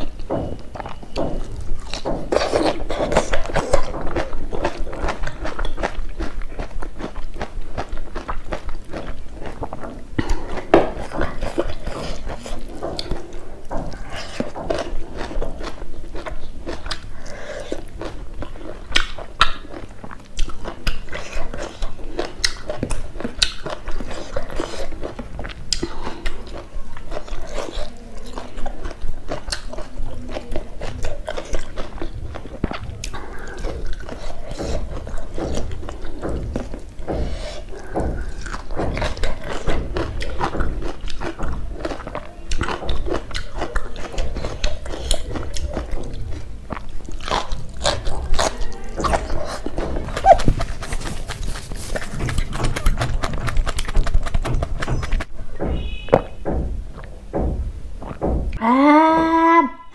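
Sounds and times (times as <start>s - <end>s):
wet chewing mouth sounds: 0.0s - 57.2s, 58.0s - 58.6s.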